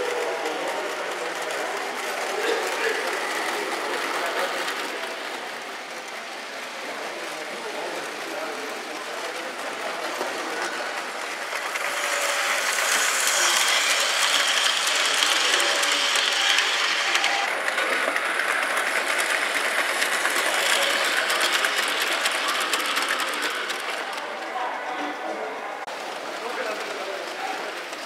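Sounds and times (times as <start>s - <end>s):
model train wheels rattling on track: 0.0s - 24.6s, 25.8s - 28.0s.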